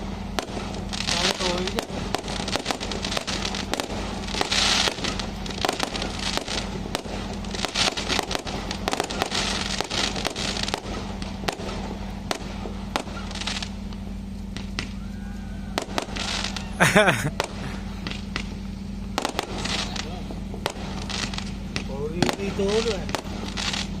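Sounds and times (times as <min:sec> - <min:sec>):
firecrackers popping: 0:00.0 - 0:24.0.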